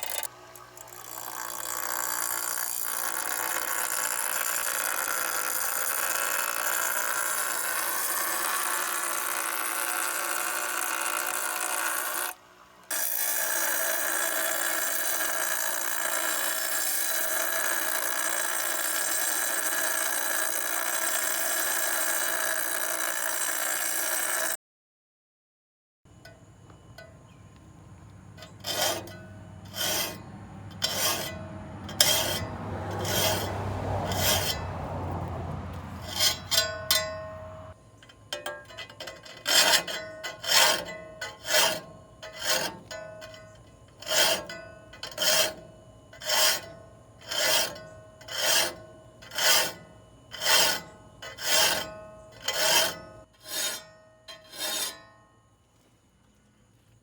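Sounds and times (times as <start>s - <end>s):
metal file strokes on saw blade: 0.9s - 24.6s, 28.2s - 55.2s.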